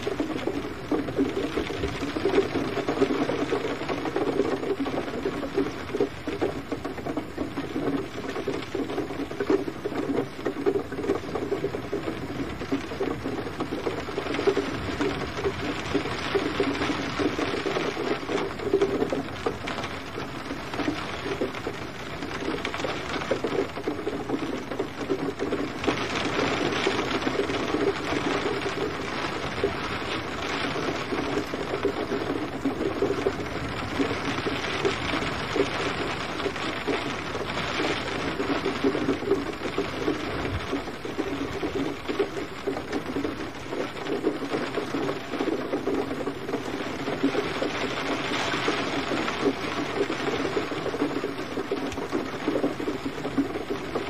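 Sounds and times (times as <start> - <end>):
gentle rain patter: 0.0 - 54.0.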